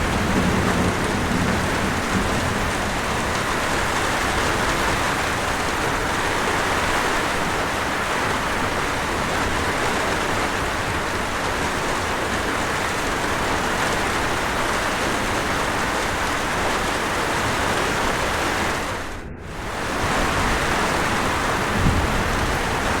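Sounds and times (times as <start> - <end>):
rush of falling water: 0.0 - 23.0.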